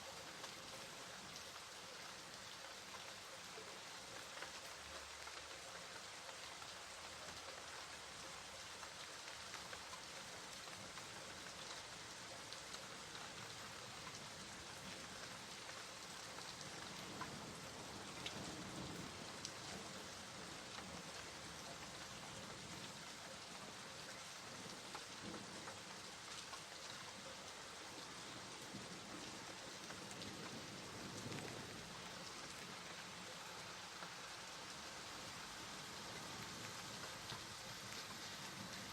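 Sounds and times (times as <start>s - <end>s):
steady rain hiss: 0.0s - 38.9s
raindrops ticking: 1.3s - 38.9s.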